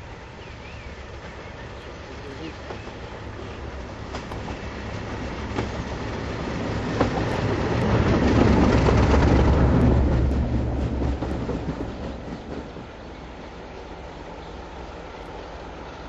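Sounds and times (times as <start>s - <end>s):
diesel locomotive engine drone: 0.0s - 16.0s
train wheels clattering on rails: 1.0s - 15.7s.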